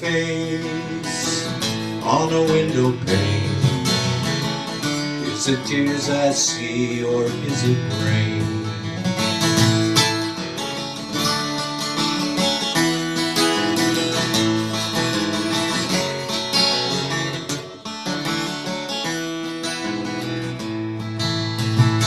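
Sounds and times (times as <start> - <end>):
acoustic guitar picking chords: 0.0 - 22.0.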